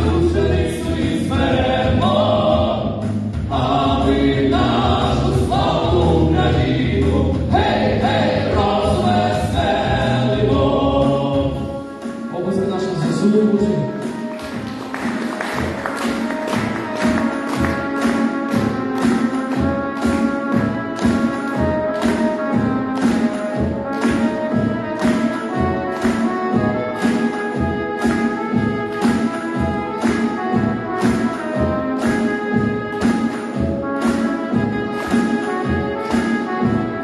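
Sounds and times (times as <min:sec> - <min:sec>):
brass music over a beat: 0:00.0 - 0:37.0.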